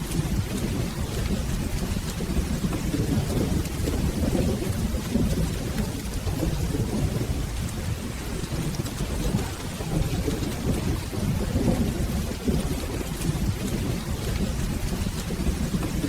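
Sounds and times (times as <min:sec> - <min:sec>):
rain falling: 0:00.0 - 0:16.0
rolling thunder: 0:00.0 - 0:16.0.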